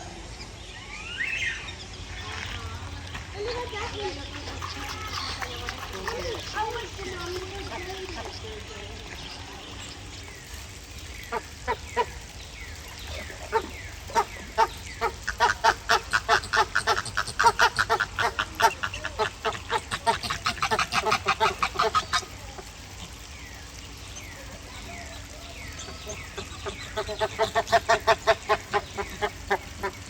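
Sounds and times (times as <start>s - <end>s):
flamingos honking: 2.1s - 30.0s.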